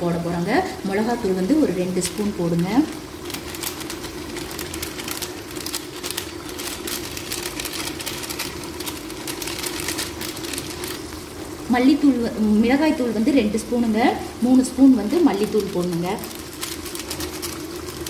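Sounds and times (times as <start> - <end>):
food crackling and sizzling: 0.0 - 18.0.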